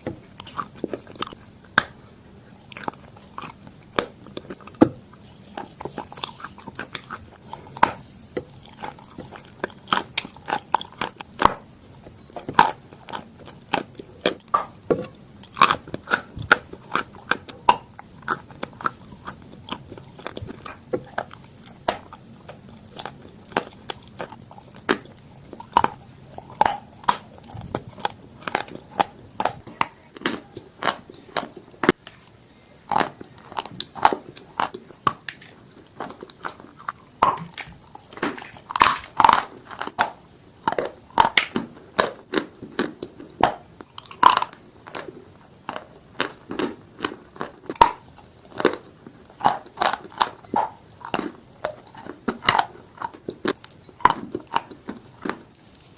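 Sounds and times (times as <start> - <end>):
chalk being bitten and chewed: 0.0 - 55.9.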